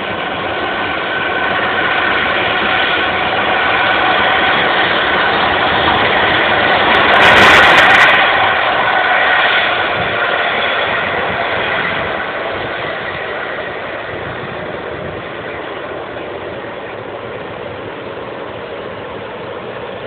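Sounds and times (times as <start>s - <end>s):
jet engines whining and rumbling: 0.0s - 20.0s.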